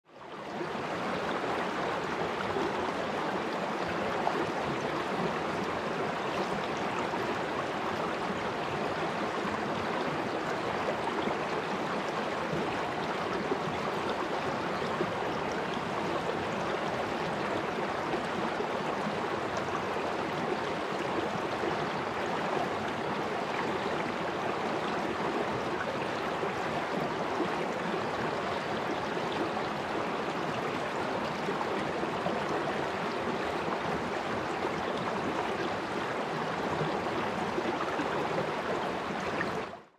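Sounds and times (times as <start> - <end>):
stream flowing over stones: 0.2 - 39.9.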